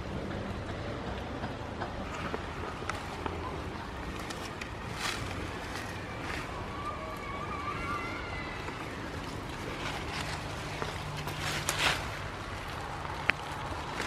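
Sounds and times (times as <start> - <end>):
steady background hiss: 0.0 - 14.0
goats chewing: 2.0 - 14.0
leaves rustling: 2.1 - 14.0
twigs crackling: 2.1 - 14.0.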